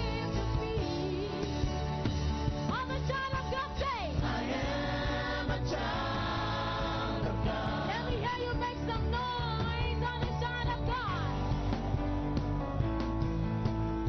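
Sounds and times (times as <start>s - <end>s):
worship band playing: 0.0s - 14.0s.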